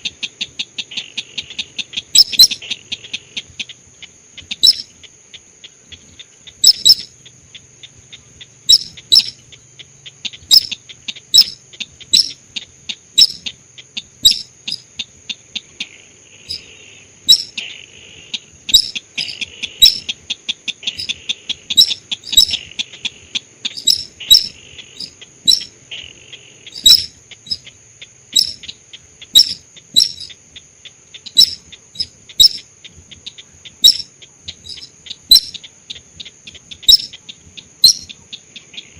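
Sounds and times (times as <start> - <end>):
bird call notes: 0.0 - 3.8, 4.4 - 4.9, 5.7 - 15.1, 16.4 - 38.9
buzzy bird chatter: 0.0 - 38.9.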